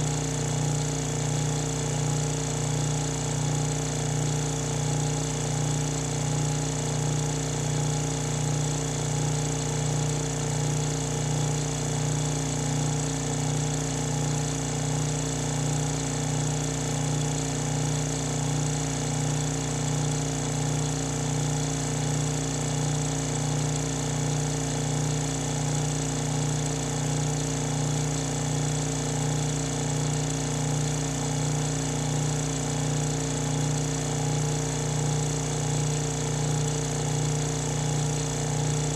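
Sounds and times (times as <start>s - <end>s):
vacuum pump humming: 0.0s - 38.9s.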